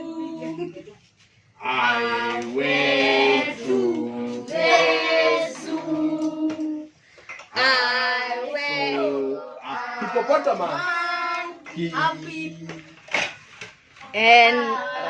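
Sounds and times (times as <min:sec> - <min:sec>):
children and women singing: 0:00.0 - 0:00.9, 0:01.6 - 0:12.8, 0:14.2 - 0:15.0.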